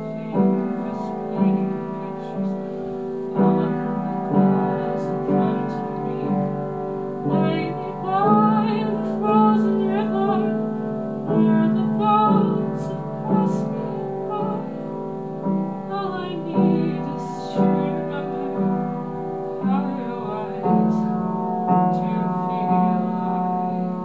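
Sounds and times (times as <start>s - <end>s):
piano chords: 0.0s - 24.0s
woman singing: 0.0s - 24.0s.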